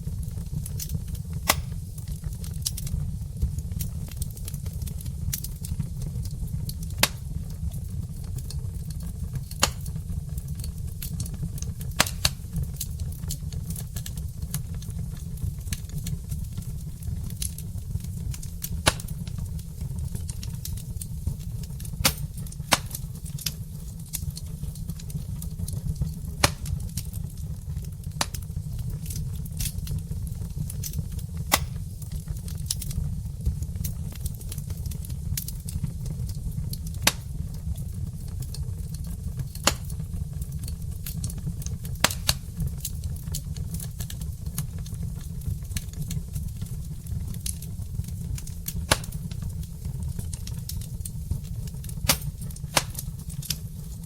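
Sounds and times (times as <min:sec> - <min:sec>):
fire crackles and pops: 0:00.0 - 0:54.0
log fire rumbling: 0:00.0 - 0:54.0.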